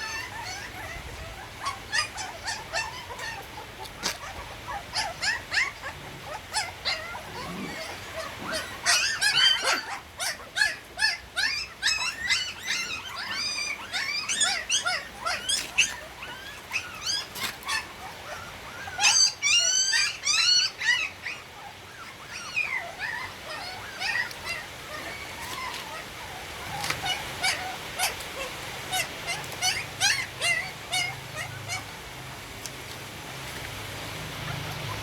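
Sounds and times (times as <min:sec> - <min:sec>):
puppies whimpering and squealing: 0:00.0 - 0:35.0.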